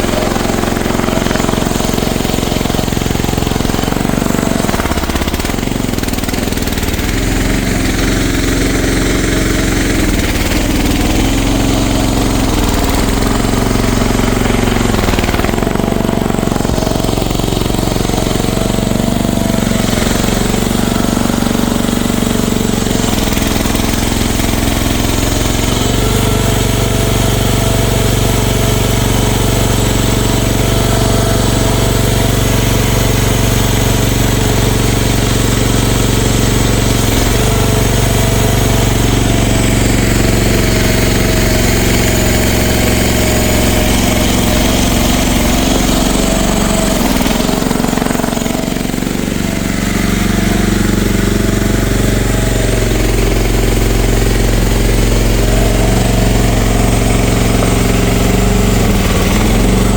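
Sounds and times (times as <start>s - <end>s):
excavator engine clattering: 0.0s - 59.9s.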